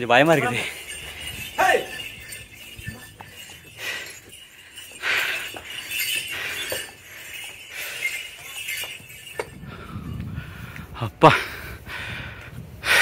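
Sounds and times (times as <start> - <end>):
metallic clinking and jingling: 0.0 - 10.8.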